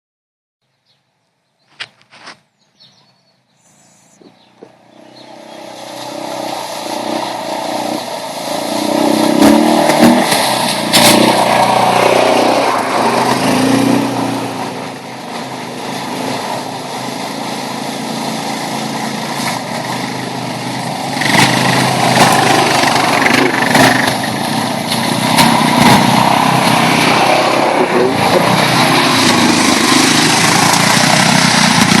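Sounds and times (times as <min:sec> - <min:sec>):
quad engines running: 0:03.8 - 0:32.0.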